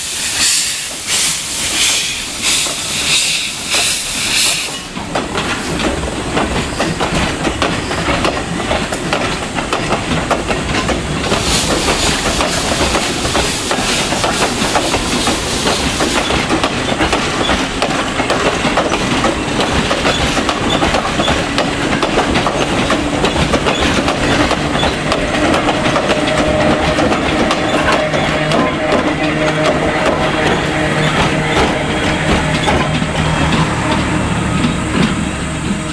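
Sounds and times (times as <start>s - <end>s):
steam hissing: 0.0s - 29.6s
train wheels clattering on rails: 0.0s - 35.9s.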